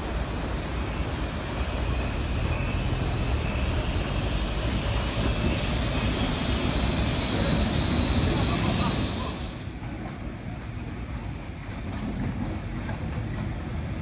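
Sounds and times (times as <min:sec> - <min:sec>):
steam locomotive rumbling: 0:00.0 - 0:14.0.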